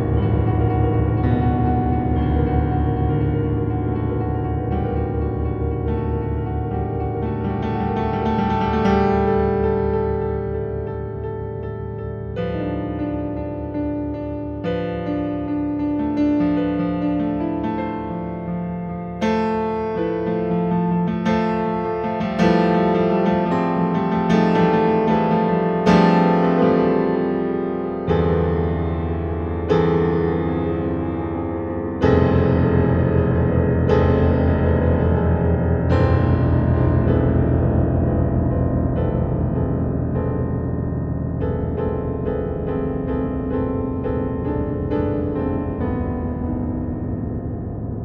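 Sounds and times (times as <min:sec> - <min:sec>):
keyboard chords: 0:00.0 - 0:48.0
slow piano-like notes: 0:00.0 - 0:48.0.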